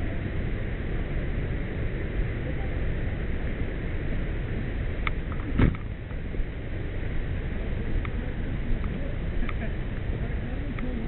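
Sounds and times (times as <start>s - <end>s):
low rumbling handling noise: 0.0s - 11.0s.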